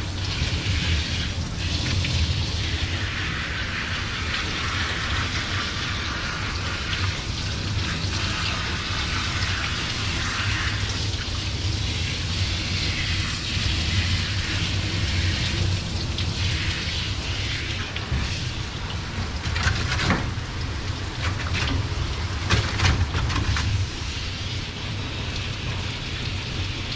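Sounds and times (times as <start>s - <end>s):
hose spraying water: 0.0s - 26.9s.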